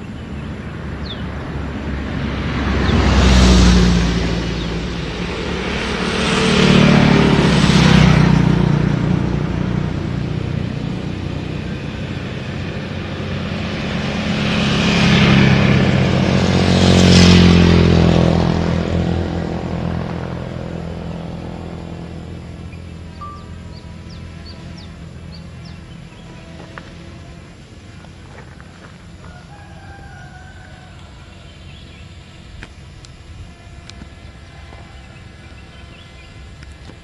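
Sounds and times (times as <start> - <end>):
low engine drone: 0.0 - 37.0
motorcycle passing: 0.0 - 37.0
road vehicle passing: 0.0 - 37.0.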